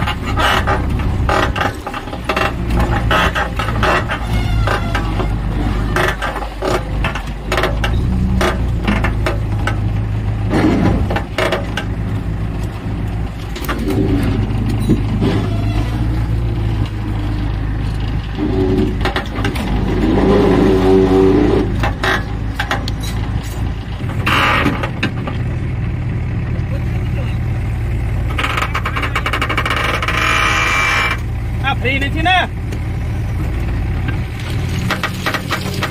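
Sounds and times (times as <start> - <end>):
diesel engine running at low revs: 0.0 - 35.9.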